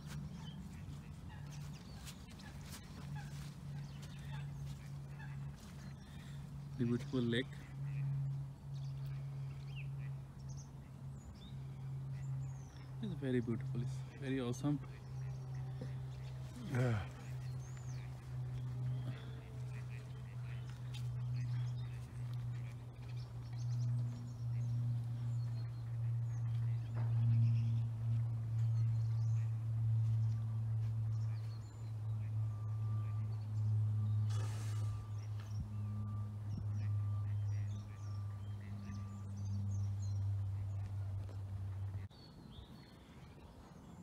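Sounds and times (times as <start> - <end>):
small birds chirping: 0.0 - 44.0
steady low hum: 0.0 - 44.0.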